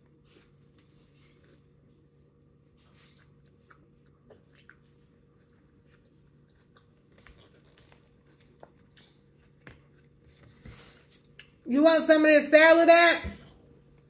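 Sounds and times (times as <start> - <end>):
faint chewing: 0.0 - 11.7.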